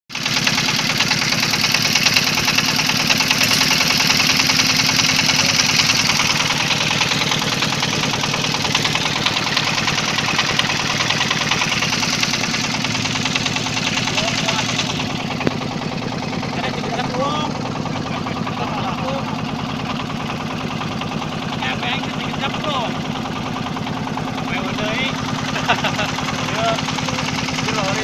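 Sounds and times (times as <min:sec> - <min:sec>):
boat engine running: 0:00.1 - 0:28.0.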